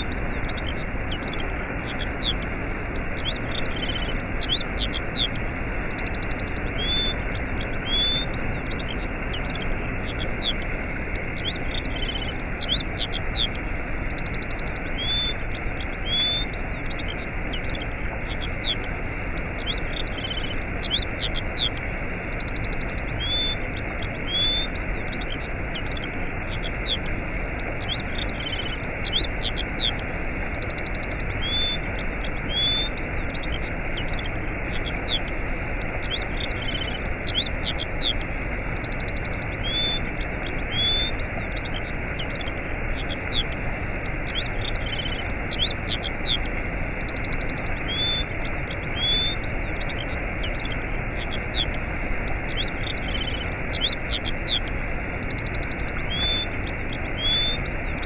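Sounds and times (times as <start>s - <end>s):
waterfall rushing: 0.0s - 57.9s
songbirds chirping and trilling: 0.0s - 58.0s.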